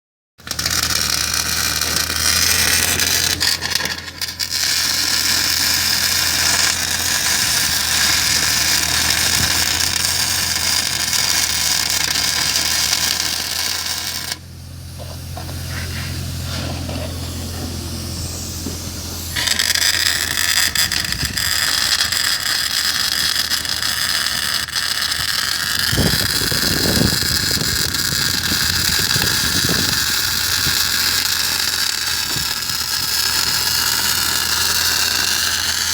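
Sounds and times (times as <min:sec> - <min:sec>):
low hum: 0:00.4 - 0:35.9
welding arc sizzling: 0:00.4 - 0:35.9.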